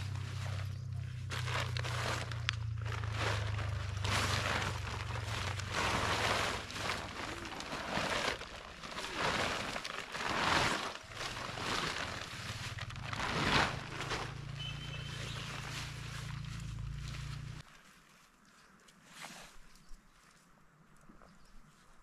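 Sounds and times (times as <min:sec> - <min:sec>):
nylon tent fabric rustling: 0:00.0 - 0:19.7.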